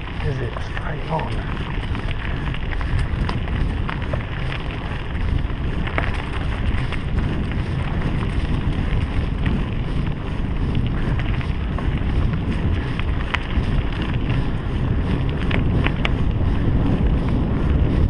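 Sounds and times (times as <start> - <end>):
bike clicks and rattles: 0.0 - 18.0
tyres on gravel track: 0.0 - 18.0
wind buffeting microphone: 0.0 - 18.0.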